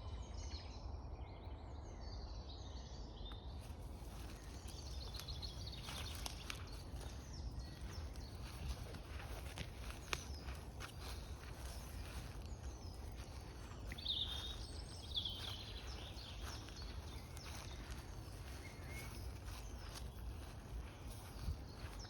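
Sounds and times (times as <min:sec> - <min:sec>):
birds chirping: 0:03.3 - 0:22.0.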